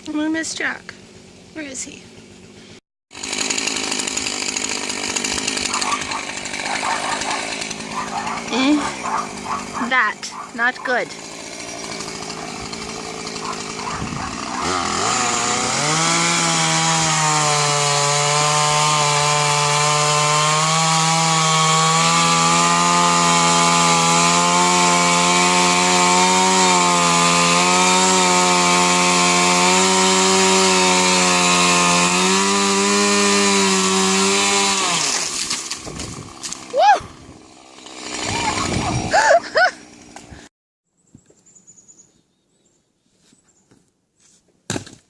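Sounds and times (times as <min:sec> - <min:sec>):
chainsaw cutting wood: 0:00.1 - 0:40.5.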